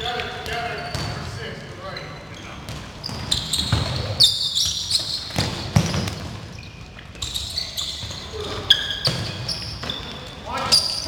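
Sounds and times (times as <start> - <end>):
sneakers squeaking on floor: 0.0 - 11.0.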